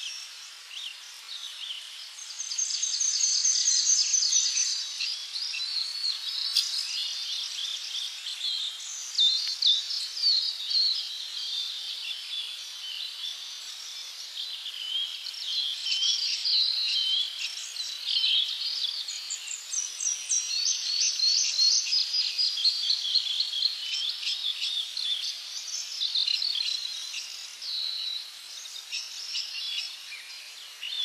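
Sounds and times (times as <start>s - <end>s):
birds chirping and singing: 0.0s - 31.0s.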